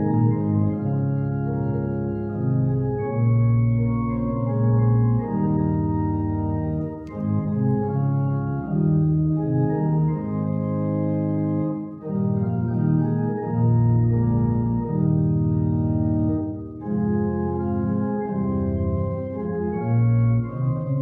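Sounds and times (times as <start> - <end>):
organ playing hymn chords: 0.0 - 21.0.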